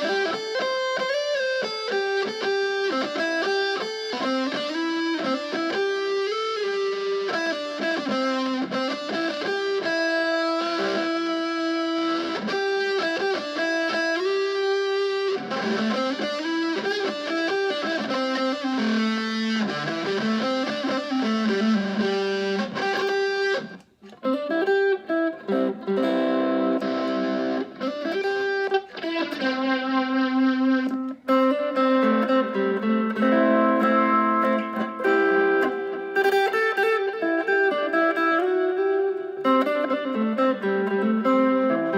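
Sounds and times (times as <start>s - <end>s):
electric guitar melody with bends: 0.0s - 41.9s.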